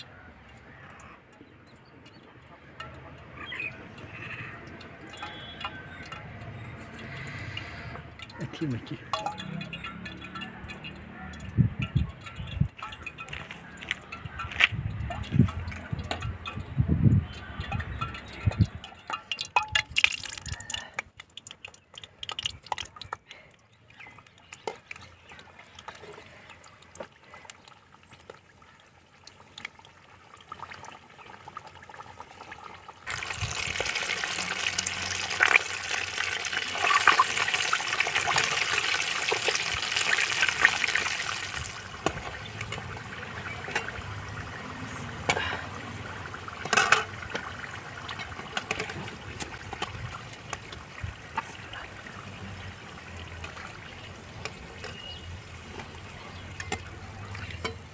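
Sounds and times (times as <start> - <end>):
food deep-frying in oil: 0.0 - 57.9.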